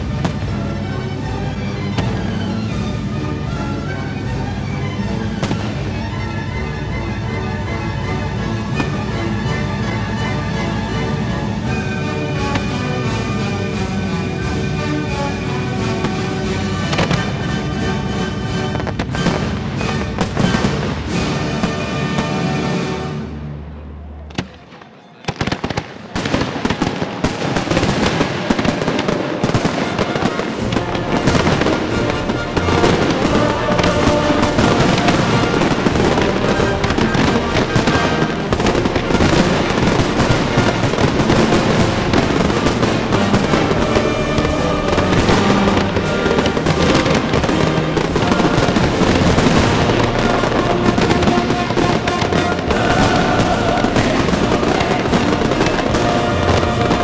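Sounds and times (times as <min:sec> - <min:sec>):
fireworks bangs and crackle: 0:00.0 - 0:23.4, 0:24.2 - 0:57.0
music: 0:00.0 - 0:57.0.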